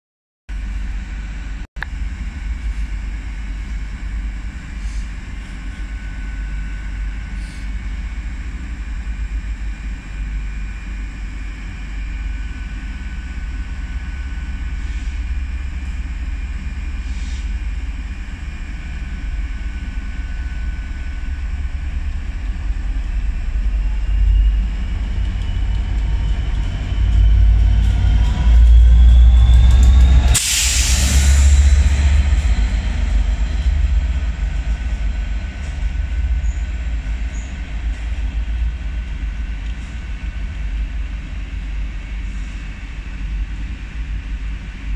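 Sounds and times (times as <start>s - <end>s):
idling train rumble and whine: 0.5s - 44.9s
diesel locomotive approaching: 0.6s - 44.9s.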